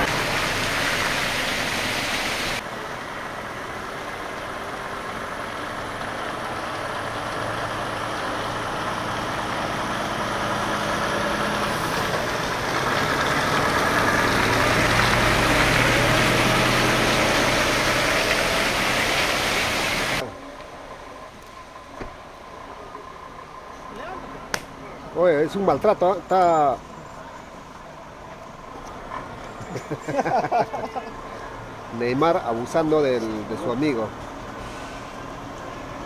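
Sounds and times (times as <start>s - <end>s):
truck diesel engine running: 0.0s - 36.0s.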